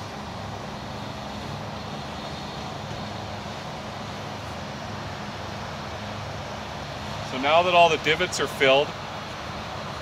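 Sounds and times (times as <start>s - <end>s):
engine droning hum: 0.0s - 10.0s.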